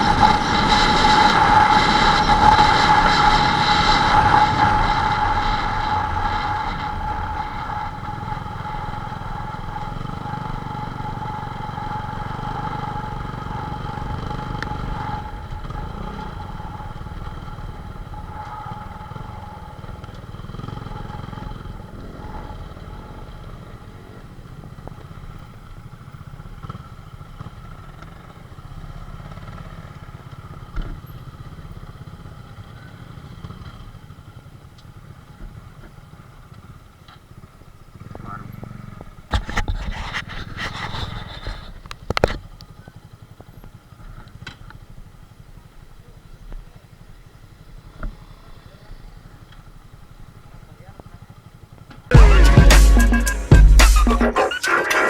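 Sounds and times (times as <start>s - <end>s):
motorcycle engines running: 0.0s - 55.0s.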